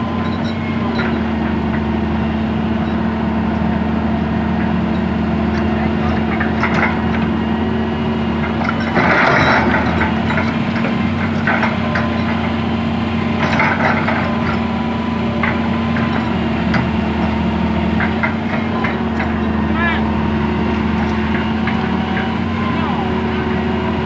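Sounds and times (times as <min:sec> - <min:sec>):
bucket arm clanks and rattles: 0:00.0 - 0:02.0, 0:02.8 - 0:22.6
excavator diesel engine running: 0:00.0 - 0:24.0
steady whine: 0:00.0 - 0:24.0.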